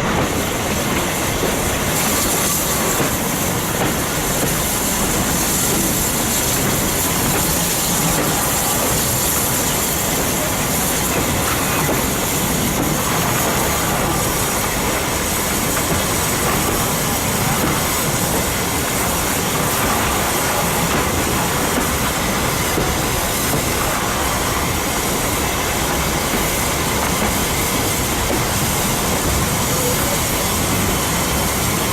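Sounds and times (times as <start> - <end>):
steam hiss: 0.0 - 31.9
train wheels rolling on rails: 0.0 - 31.9.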